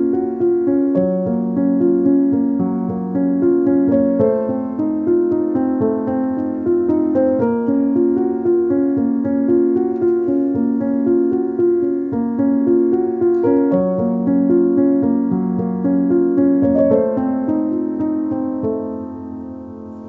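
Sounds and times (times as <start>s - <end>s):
soft piano piece: 0.0s - 20.0s.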